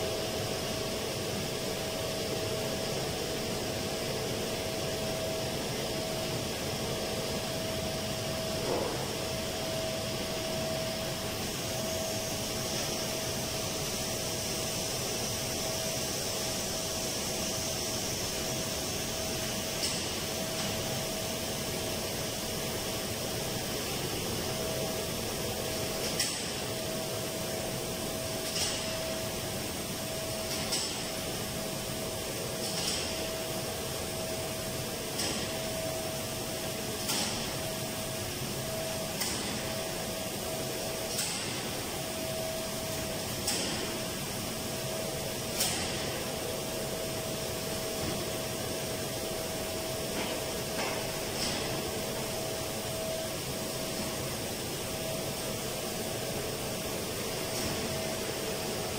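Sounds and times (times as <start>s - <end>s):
ventilation machinery hum: 0.0s - 58.9s.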